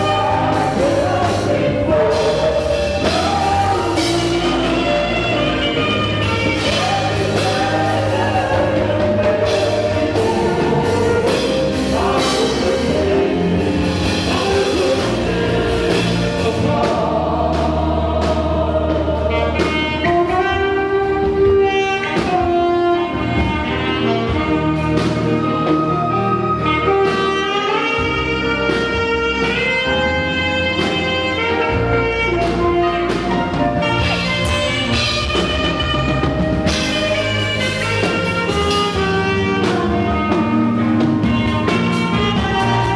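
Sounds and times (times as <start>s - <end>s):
bass: 0.0s - 42.9s
drums: 0.0s - 42.9s
saxophone playing lead: 0.0s - 42.9s.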